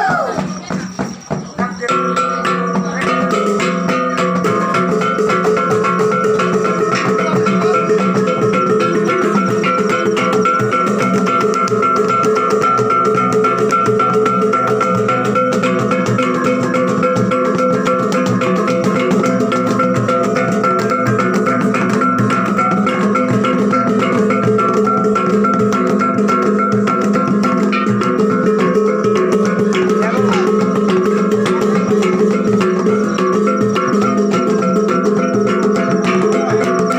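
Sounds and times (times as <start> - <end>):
guitar and percussion music: 0.0 - 36.9.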